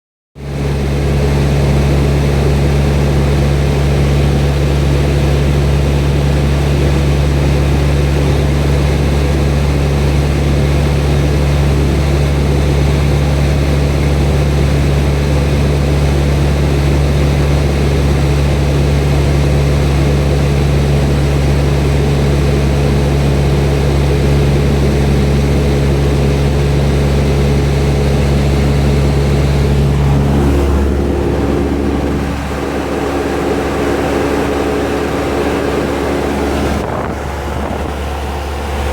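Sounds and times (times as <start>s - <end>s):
propeller plane engine drone: 0.4s - 38.9s.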